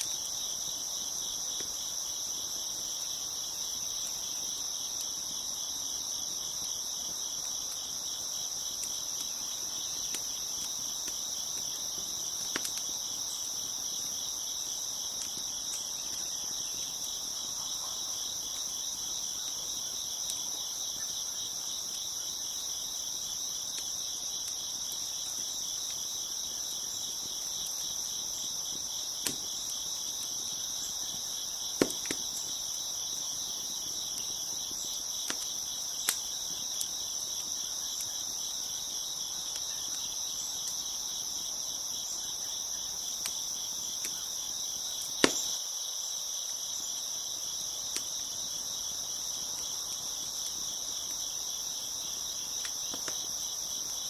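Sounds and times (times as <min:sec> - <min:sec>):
wood fire popping: 0:00.0 - 0:41.5, 0:44.9 - 0:45.6, 0:47.5 - 0:54.0
crickets chirping: 0:00.0 - 0:54.0.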